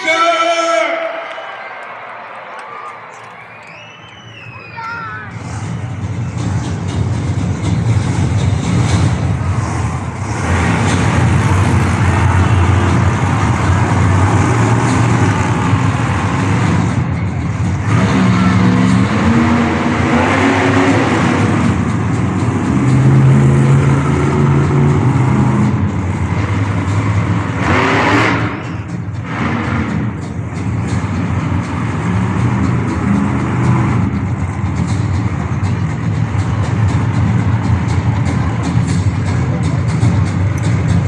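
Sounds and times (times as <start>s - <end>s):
monster truck engine revving: 3.3s - 41.0s.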